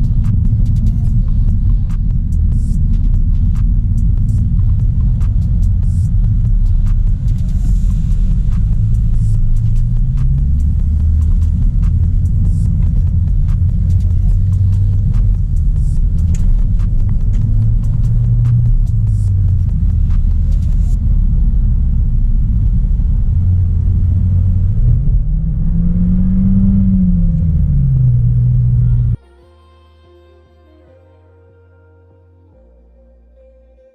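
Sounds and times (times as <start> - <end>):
car engine droning: 0.0 - 29.2
road rumble: 0.0 - 29.2.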